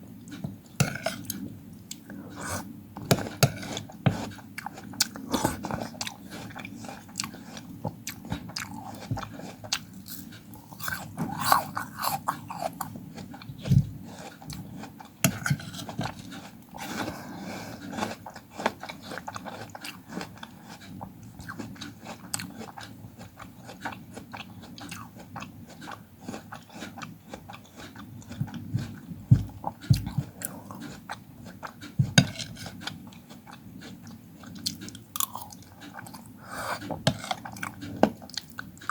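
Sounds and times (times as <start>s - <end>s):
biting and chewing fruit: 0.2s - 38.9s.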